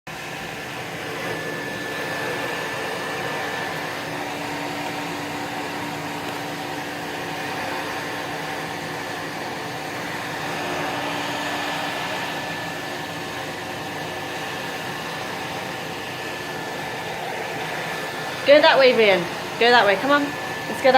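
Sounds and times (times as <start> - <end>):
vacuum cleaner running: 0.1 - 20.9.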